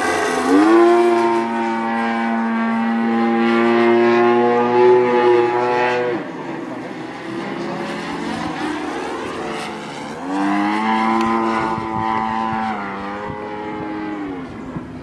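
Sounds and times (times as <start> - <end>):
model airplane propeller drone: 0.0 - 15.0.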